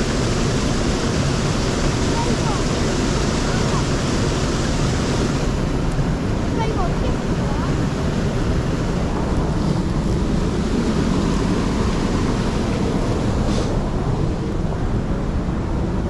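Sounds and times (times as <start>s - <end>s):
water rushing in a stream: 0.0s - 16.0s.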